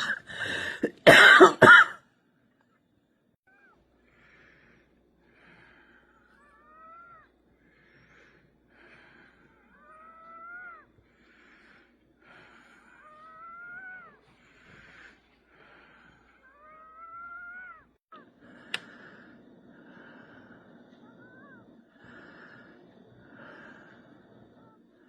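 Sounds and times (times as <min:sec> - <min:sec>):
wheezing breathing: 0:00.0 - 0:01.0, 0:03.6 - 0:25.0.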